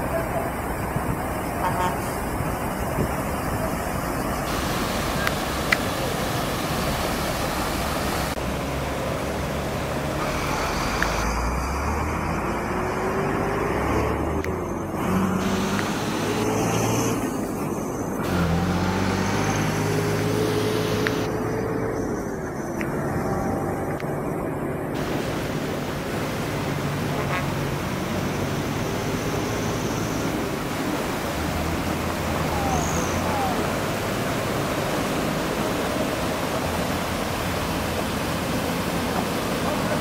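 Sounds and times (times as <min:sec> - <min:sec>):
floodwater rushing: 0:00.0 - 0:22.1, 0:22.9 - 0:40.0
truck and car engines running: 0:00.0 - 0:40.0.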